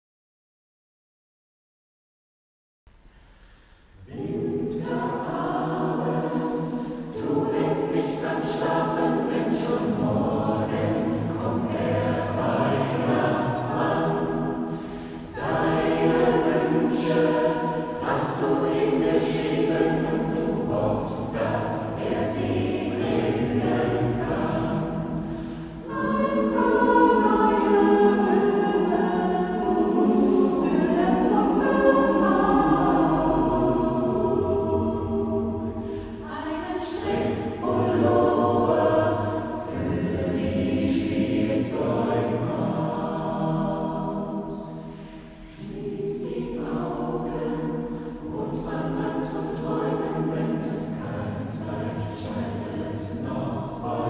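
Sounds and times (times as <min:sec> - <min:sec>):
mixed choir singing a cappella: 0:03.8 - 0:54.0.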